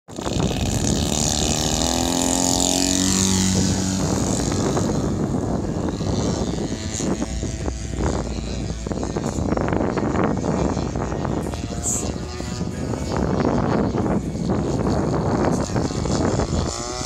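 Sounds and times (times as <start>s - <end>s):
model plane propeller and motor: 0.1s - 17.0s.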